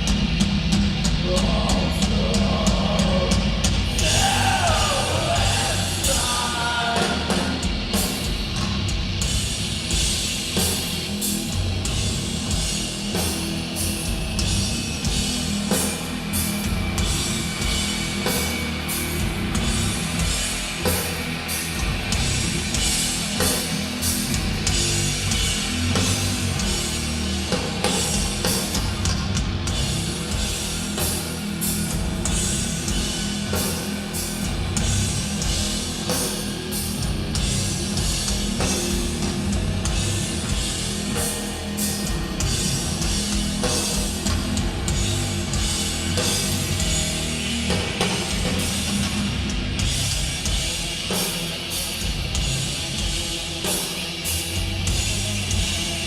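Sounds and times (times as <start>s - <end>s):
distorted guitars and bass: 0.0s - 56.0s
slow pounding drums: 0.0s - 56.0s.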